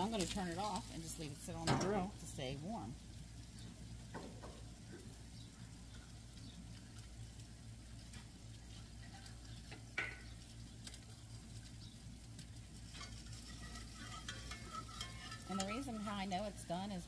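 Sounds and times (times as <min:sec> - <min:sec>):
dough sizzling in oil: 0:00.0 - 0:17.0.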